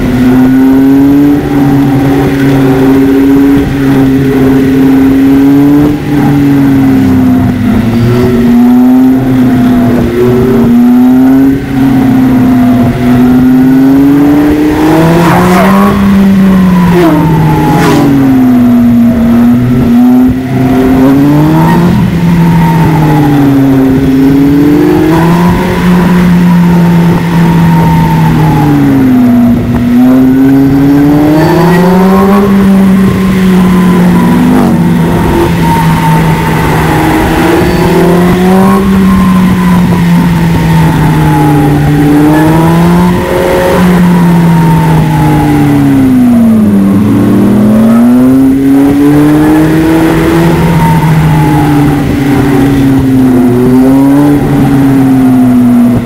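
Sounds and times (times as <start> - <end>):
engine accelerating: 0.0 - 56.0.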